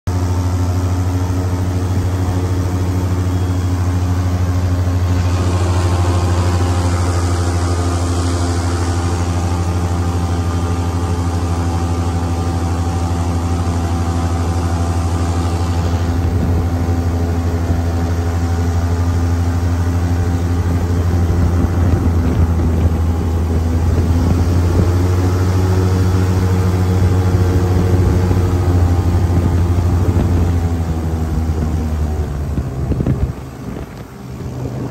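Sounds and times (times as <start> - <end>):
airboat engine drone: 0.1 - 34.9.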